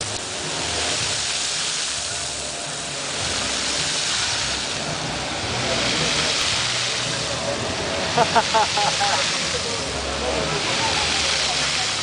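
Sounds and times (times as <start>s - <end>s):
water pouring from fountain pipe: 0.0s - 12.0s.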